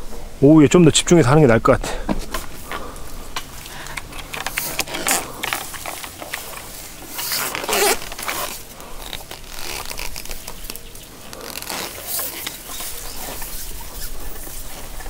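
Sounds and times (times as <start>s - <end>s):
rustling and scraping: 1.9s - 15.0s.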